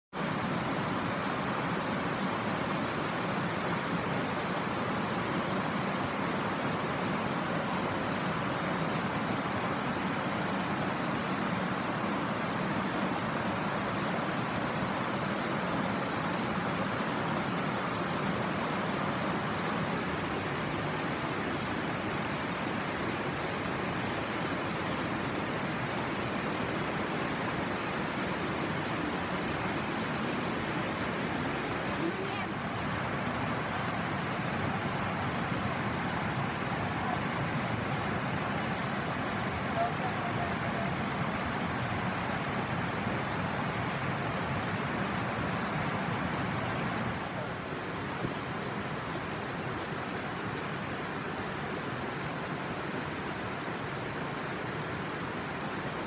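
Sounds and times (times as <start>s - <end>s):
river rushing over rock ledge: 0.2s - 56.0s.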